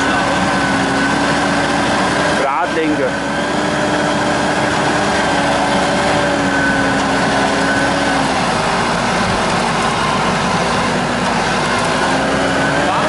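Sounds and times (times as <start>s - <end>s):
steady whine: 0.0s - 13.0s
suv engine running under load: 0.0s - 13.0s
wheel churning through mud: 0.0s - 13.0s.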